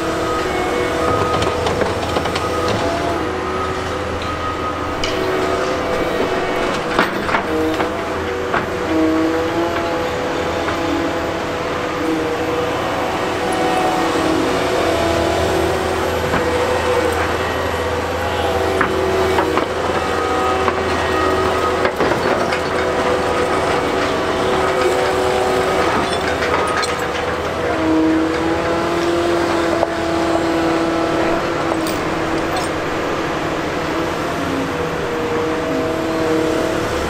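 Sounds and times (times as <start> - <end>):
diesel engine drone: 0.0 - 37.0
whining tones: 0.0 - 37.0.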